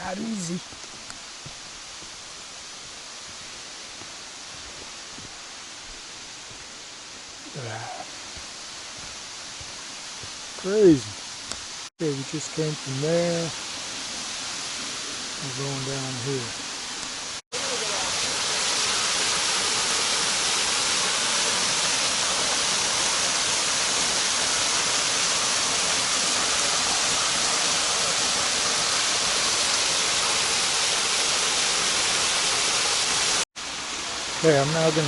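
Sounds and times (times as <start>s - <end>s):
waterfall rushing: 0.0s - 6.6s, 11.8s - 35.0s.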